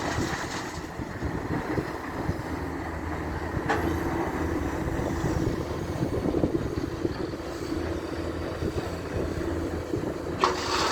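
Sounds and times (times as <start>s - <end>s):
diesel machinery engine running: 0.0s - 10.9s.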